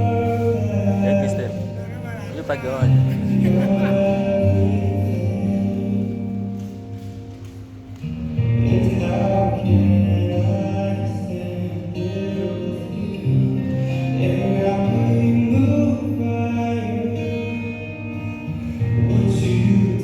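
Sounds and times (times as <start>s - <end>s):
slow vocal song: 0.0s - 20.0s.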